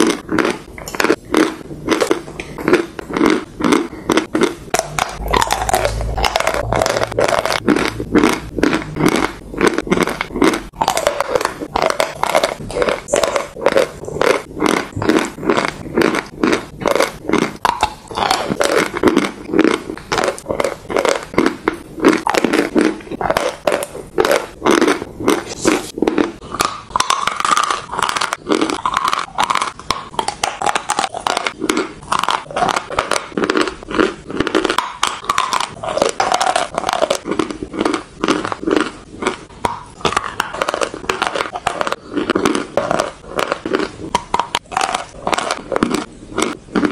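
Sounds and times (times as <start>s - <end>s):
chalk being chewed: 0.0s - 46.9s.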